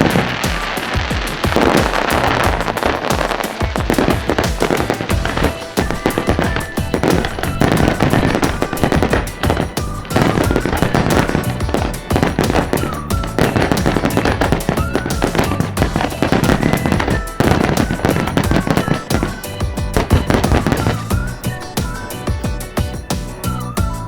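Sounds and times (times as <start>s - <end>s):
fireworks bangs and crackling: 0.0s - 24.0s
music playing: 0.0s - 24.0s.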